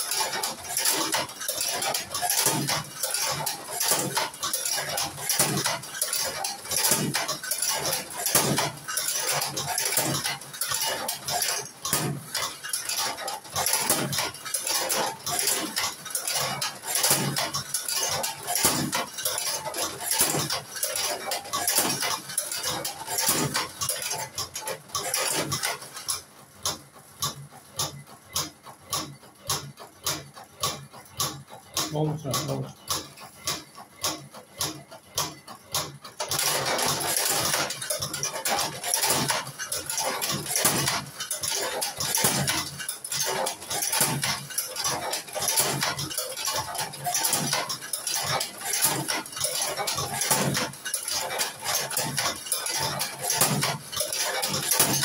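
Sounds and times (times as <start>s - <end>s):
cigarette rolling machine clicking: 0.0s - 55.0s.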